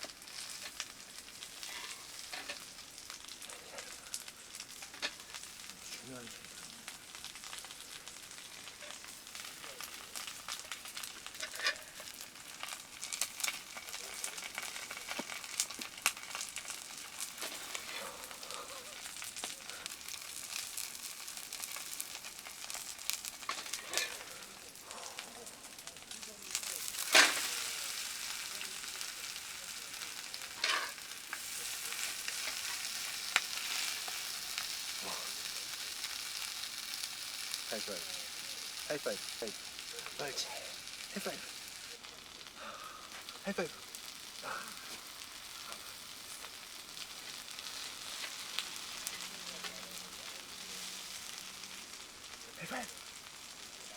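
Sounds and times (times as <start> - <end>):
food sizzling in a pan: 0.0 - 53.9.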